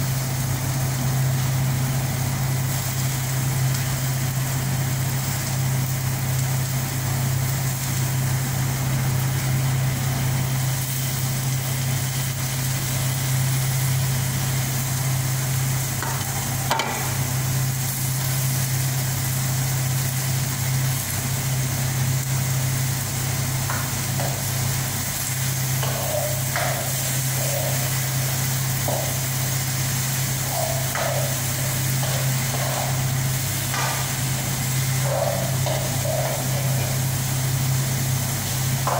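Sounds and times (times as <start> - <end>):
faint sizzling in pan: 0.0 - 38.9
range hood fan humming: 0.0 - 38.9.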